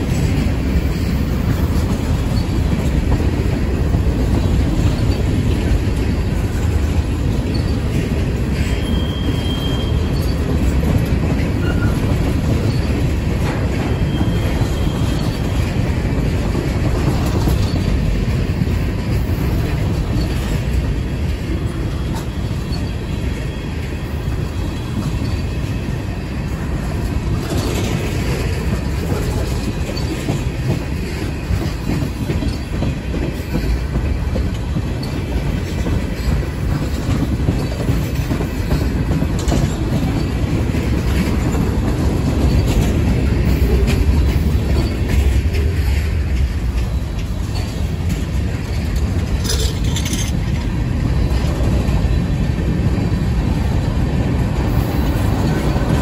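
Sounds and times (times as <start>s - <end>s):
wheels clicking over track: 0.0s - 26.1s, 26.7s - 56.0s
steel wheels rumbling on rail: 0.0s - 56.0s.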